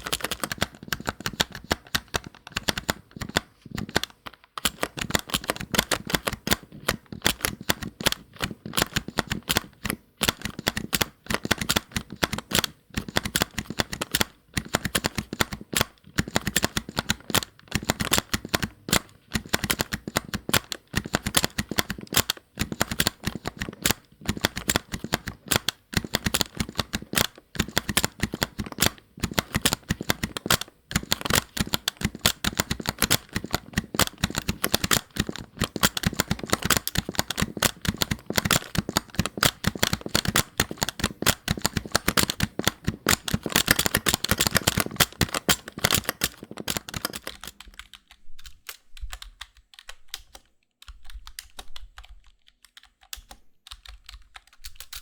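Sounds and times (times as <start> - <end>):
fast typing on keyboard: 0.0 - 55.0.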